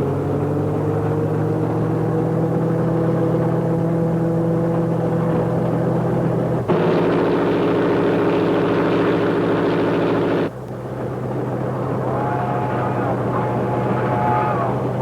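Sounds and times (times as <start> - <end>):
locomotive engine humming: 0.0 - 15.0.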